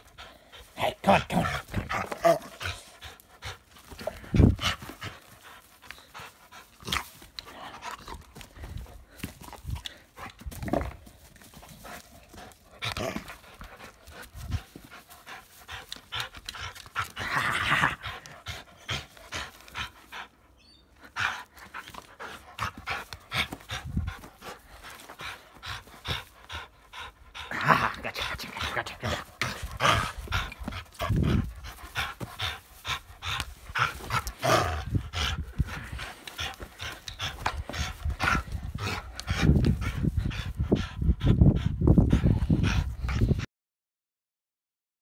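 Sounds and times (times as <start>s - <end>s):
dog panting: 0.0s - 43.5s.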